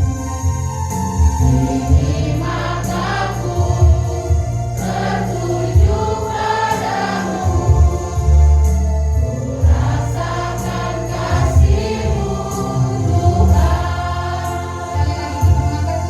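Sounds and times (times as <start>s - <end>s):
choir singing worship song: 0.0s - 16.0s
instrumental accompaniment with bass: 0.0s - 16.0s.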